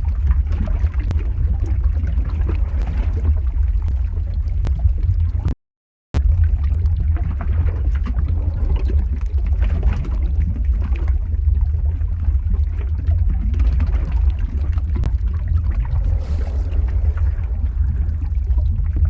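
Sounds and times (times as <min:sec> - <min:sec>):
lava flow rumbling and crackling: 0:00.0 - 0:05.6, 0:06.2 - 0:19.0.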